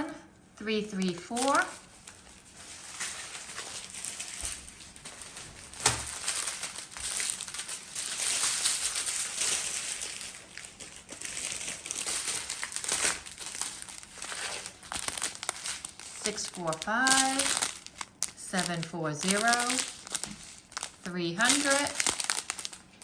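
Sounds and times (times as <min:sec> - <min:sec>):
plastic bags crinkling: 0:01.0 - 0:23.0.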